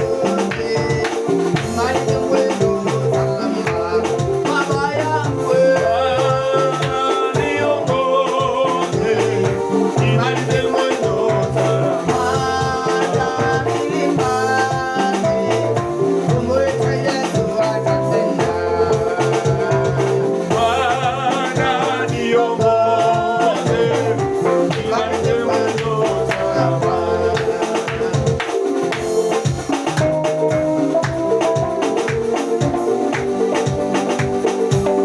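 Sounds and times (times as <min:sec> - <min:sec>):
upbeat music with singing: 0:00.0 - 0:35.0.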